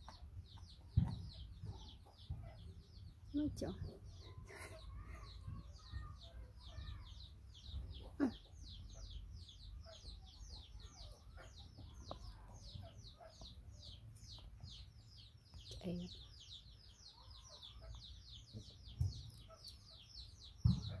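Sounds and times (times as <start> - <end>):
bird peeping: 0.0 - 21.0.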